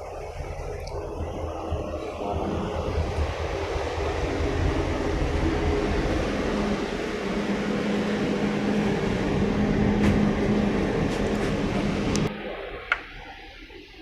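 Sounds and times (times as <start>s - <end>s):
low hum: 0.0s - 14.0s
passenger ship rumble: 0.0s - 14.0s.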